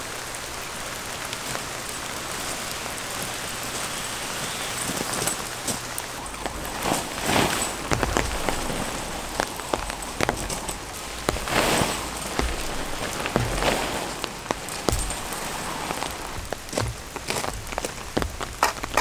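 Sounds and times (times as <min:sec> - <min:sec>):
steady rain with ticking drops: 0:00.0 - 0:19.0.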